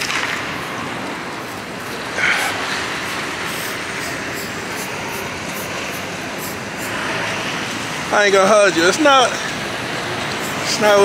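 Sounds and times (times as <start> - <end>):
traffic hiss on wet roads: 0.0 - 11.0.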